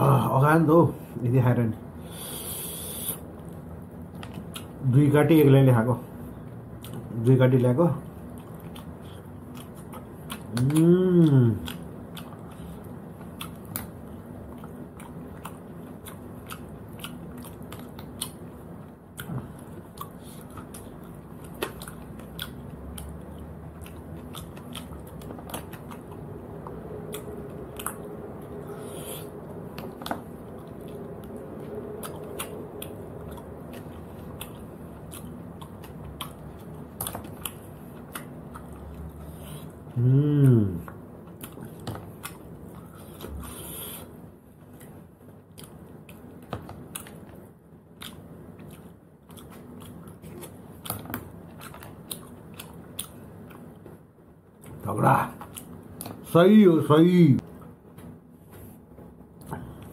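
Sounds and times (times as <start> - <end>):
chewing: 2.6 - 4.8, 6.7 - 7.2, 8.0 - 54.0.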